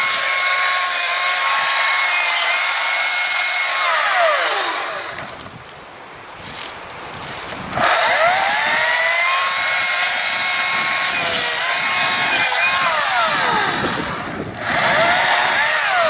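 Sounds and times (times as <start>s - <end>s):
battery chainsaw whining: 0.0s - 5.5s, 7.7s - 16.0s.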